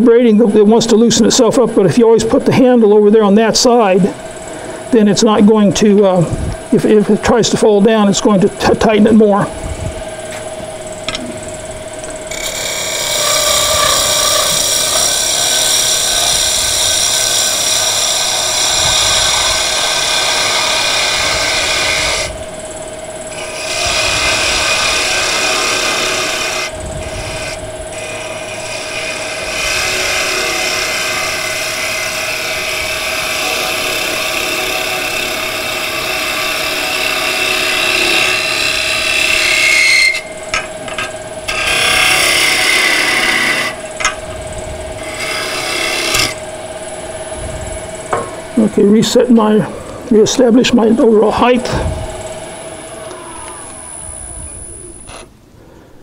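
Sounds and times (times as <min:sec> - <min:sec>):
turning tool scraping spinning wood: 0:00.0 - 0:54.4
wood lathe motor running: 0:00.0 - 0:55.3.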